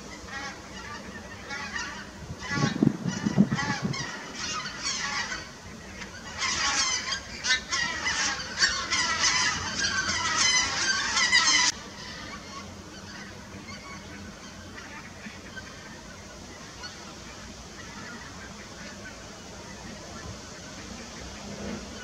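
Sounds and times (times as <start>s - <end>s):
geese honking in flight: 0.0s - 22.0s.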